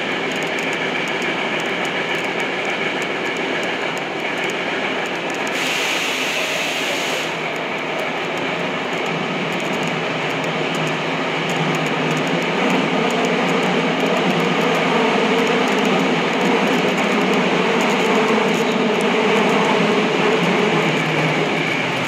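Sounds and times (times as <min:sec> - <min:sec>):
faint rail clicks: 0:00.0 - 0:22.0
subway train wheels rumbling: 0:00.0 - 0:22.0.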